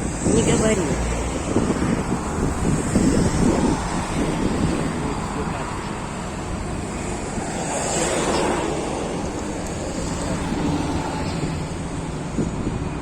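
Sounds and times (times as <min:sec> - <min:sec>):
jet engines at takeoff: 0:00.0 - 0:13.0.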